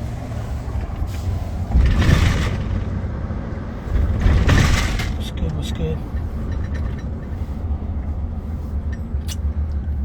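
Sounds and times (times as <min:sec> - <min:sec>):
low rumble of vehicles: 0:00.0 - 0:10.0.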